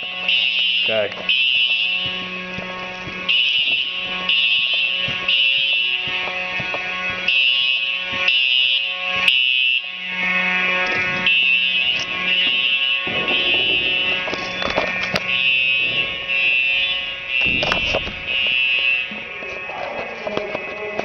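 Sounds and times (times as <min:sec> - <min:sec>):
fire alarm pulsing: 0:00.0 - 0:21.0.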